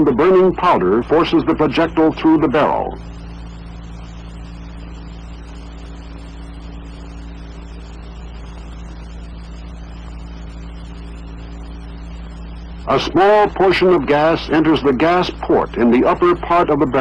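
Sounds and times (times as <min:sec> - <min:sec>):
background hiss: 0:00.0 - 0:17.0
low hum: 0:00.0 - 0:17.0.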